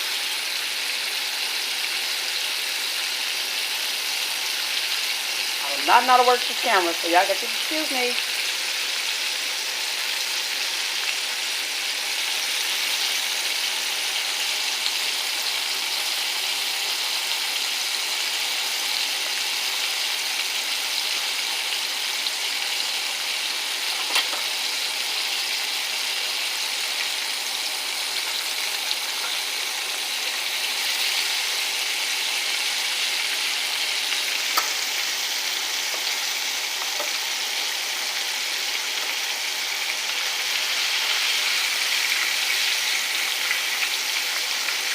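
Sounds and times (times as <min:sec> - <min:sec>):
ribs sizzling in hot oil: 0:00.0 - 0:44.9.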